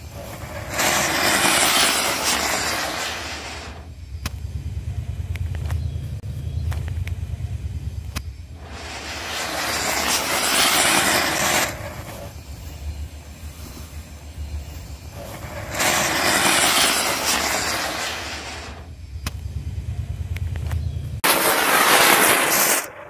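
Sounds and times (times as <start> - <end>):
firework fountains hissing: 0.0 - 5.2, 8.4 - 20.2, 21.2 - 23.0
low rumble: 0.0 - 23.0.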